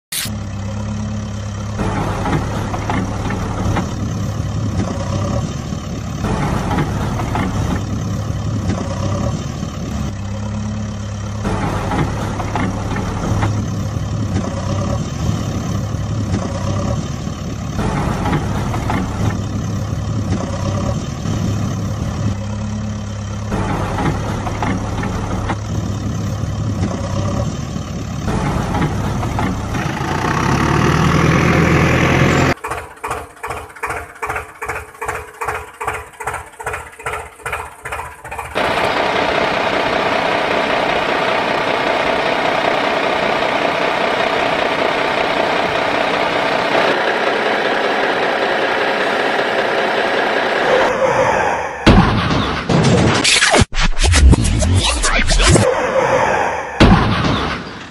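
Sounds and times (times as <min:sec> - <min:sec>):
diesel engine humming: 0:00.2 - 0:52.2.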